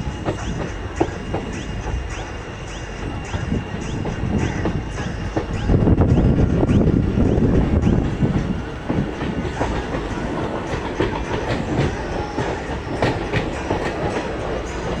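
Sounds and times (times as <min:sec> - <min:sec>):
train rumbling along track: 0:00.0 - 0:15.0
wheels clicking over rail joints: 0:00.0 - 0:15.0.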